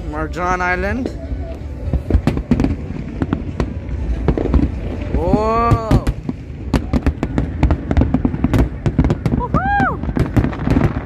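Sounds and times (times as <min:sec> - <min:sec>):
steady low rumble: 0:00.0 - 0:11.0
fireworks bangs: 0:00.8 - 0:11.0.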